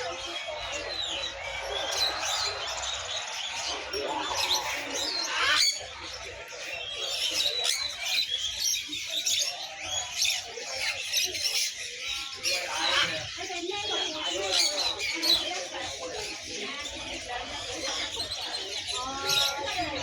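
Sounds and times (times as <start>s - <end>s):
songbirds chirping and twittering: 0.0s - 20.0s.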